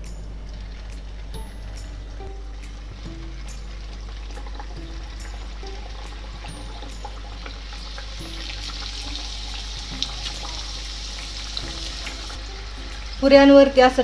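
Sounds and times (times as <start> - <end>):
dough deep-frying in hot oil: 0.0 - 14.0.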